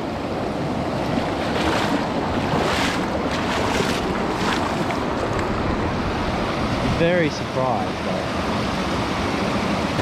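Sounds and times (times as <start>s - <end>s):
stream water flowing: 0.0s - 10.0s.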